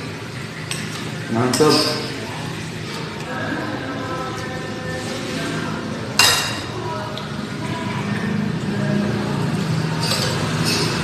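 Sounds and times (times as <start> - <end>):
voices: 1.3 - 10.5.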